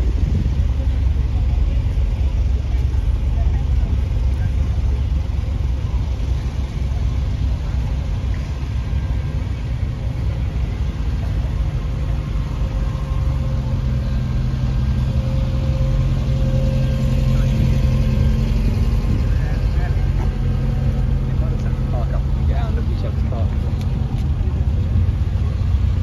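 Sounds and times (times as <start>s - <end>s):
cars idling and creeping past: 0.0s - 26.0s.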